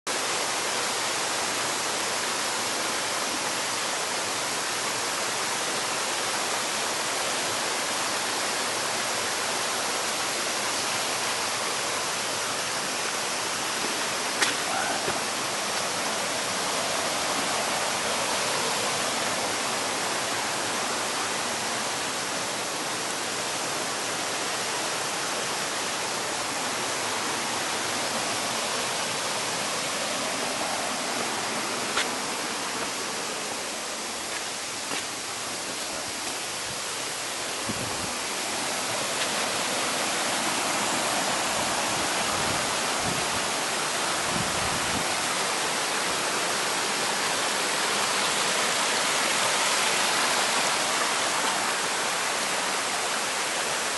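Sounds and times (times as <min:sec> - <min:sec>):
stream rushing over rocks: 0:00.1 - 0:53.9.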